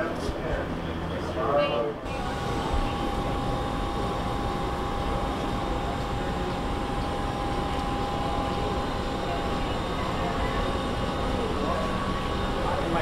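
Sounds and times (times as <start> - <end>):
machinery and ventilation running: 0.0 - 13.0
steady high whine: 0.6 - 13.0.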